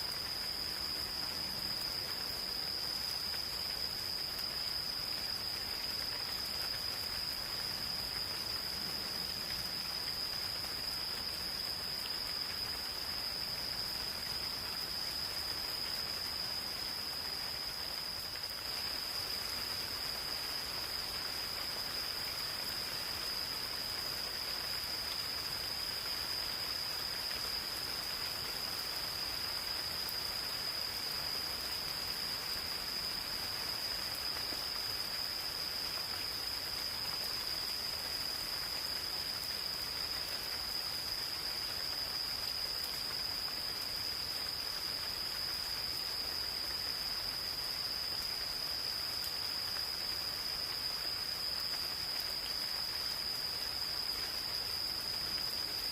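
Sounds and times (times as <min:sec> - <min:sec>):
gentle rain hissing: 0:00.0 - 0:55.9.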